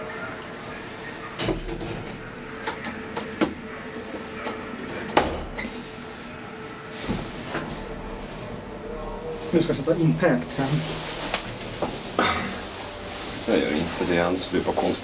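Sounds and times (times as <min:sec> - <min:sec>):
elevator hum: 0:00.0 - 0:15.0.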